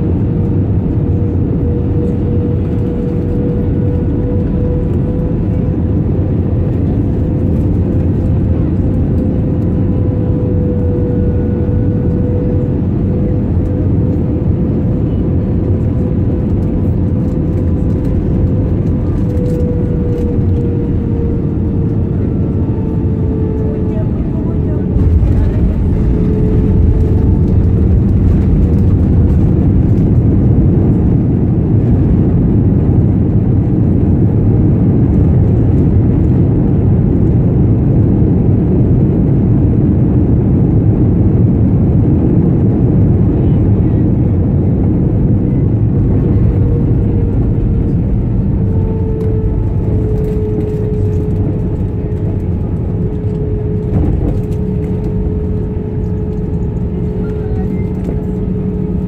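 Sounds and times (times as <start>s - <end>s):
airplane cabin rumble: 0.0s - 59.0s
steady hum: 0.0s - 59.0s.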